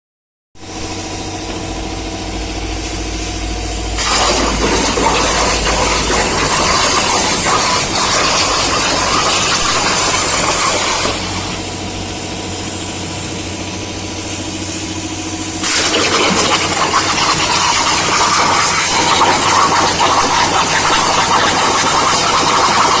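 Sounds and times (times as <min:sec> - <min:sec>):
plasma arc hissing: 0:00.6 - 0:23.0
steady electrical hum: 0:00.6 - 0:23.0.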